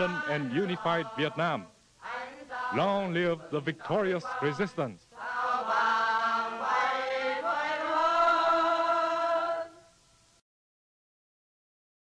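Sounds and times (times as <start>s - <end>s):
choir singing long held notes: 0.0s - 10.0s.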